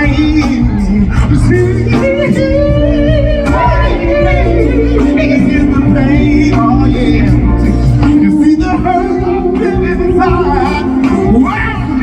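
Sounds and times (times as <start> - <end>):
band accompaniment: 0.0 - 12.0
man singing a soul ballad: 0.0 - 12.0.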